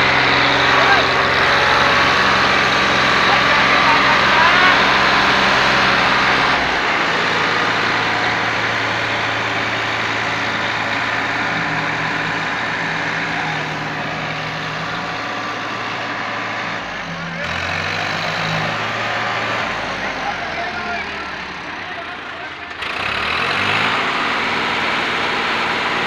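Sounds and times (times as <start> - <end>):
tractor engines running hard: 0.0 - 26.0.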